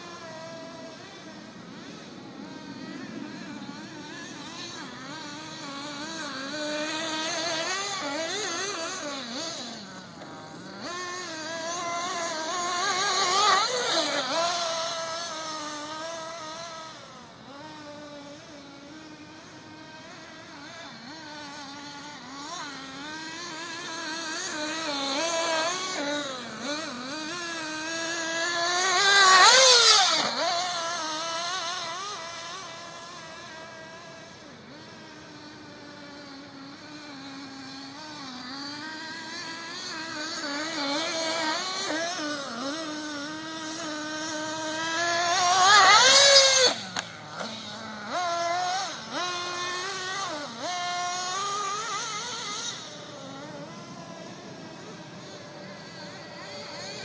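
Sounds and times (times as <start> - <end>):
toy car motor whining: 0.0 - 57.0.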